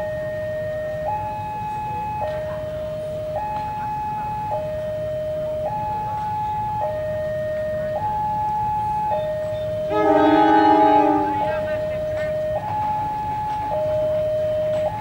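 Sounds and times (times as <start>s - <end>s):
two-tone crossing alarm: 0.0s - 15.0s.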